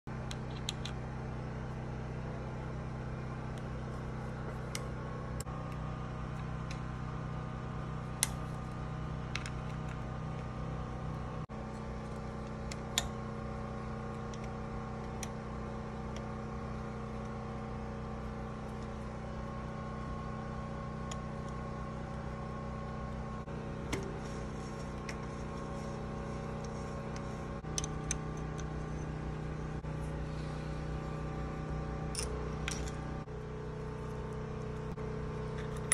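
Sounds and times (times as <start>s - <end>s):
machine humming: 0.3s - 35.9s.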